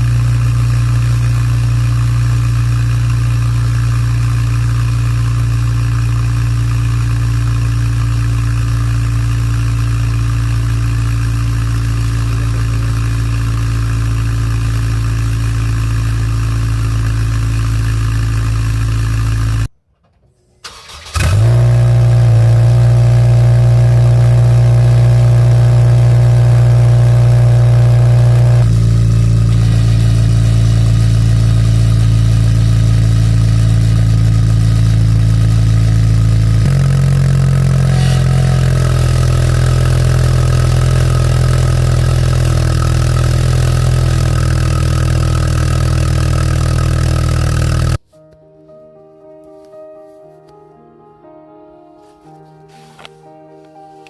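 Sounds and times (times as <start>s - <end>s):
car engine idling: 0.0s - 19.7s, 20.7s - 48.0s
car engine starting: 0.0s - 19.7s, 20.6s - 48.0s.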